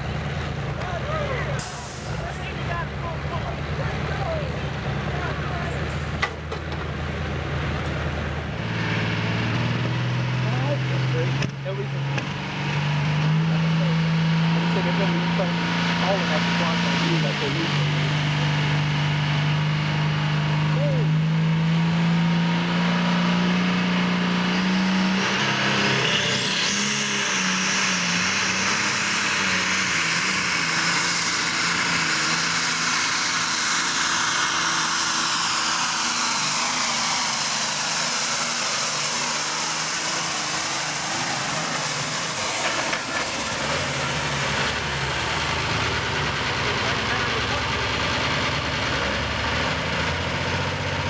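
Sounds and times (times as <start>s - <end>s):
tractor diesel engine roaring: 0.0s - 51.0s.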